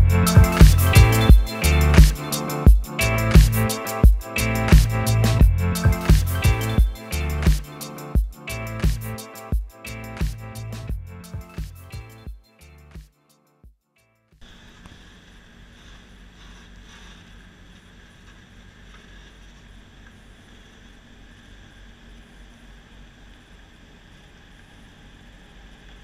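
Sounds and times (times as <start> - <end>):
steady hiss: 0.0 - 10.9, 14.4 - 26.0.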